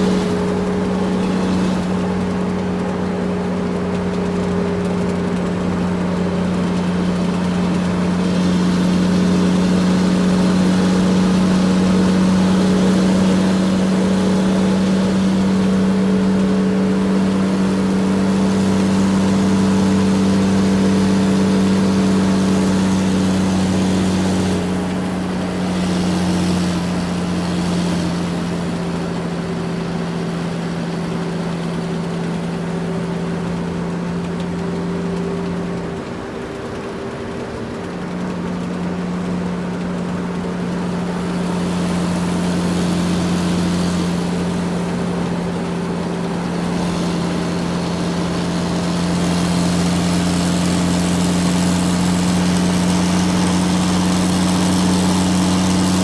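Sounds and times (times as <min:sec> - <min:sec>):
excavator motor humming: 0:00.0 - 0:56.0.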